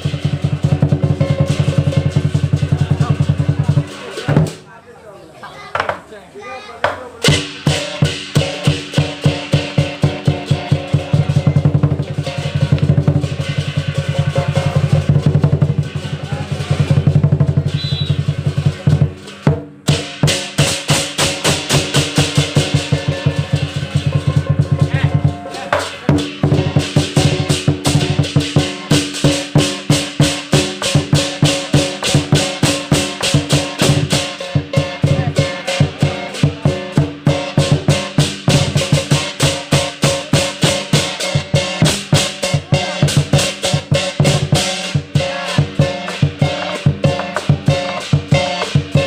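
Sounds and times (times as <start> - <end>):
hand cymbals: 0.0 - 4.6, 7.2 - 49.0
large drum beating: 0.0 - 4.7, 6.8 - 49.0.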